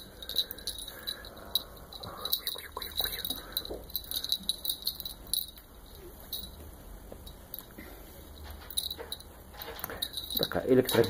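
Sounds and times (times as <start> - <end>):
small bell jingling: 0.0 - 6.6, 8.3 - 11.0.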